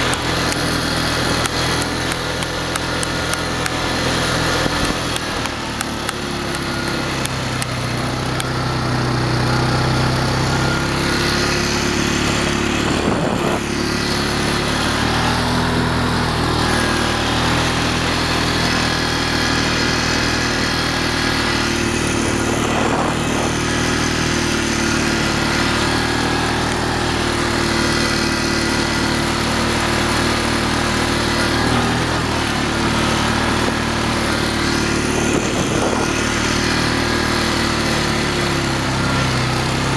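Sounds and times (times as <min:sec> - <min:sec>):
atv engine running: 0:00.0 - 0:39.9
wind and tyre noise: 0:00.0 - 0:39.9.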